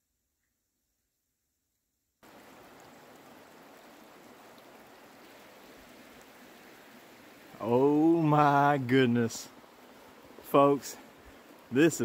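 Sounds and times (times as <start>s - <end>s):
creek running over rocks: 2.2s - 12.0s.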